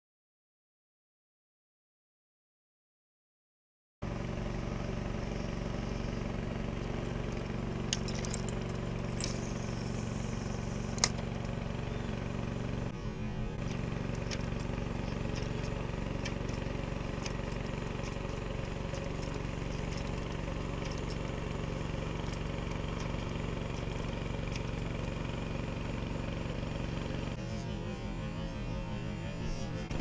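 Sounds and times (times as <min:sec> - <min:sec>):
small motor running: 0:04.1 - 0:30.0.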